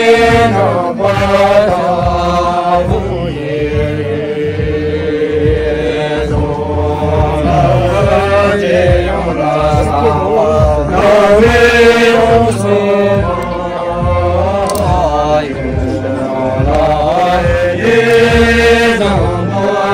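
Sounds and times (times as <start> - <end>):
men singing in unison: 0.0 - 19.9.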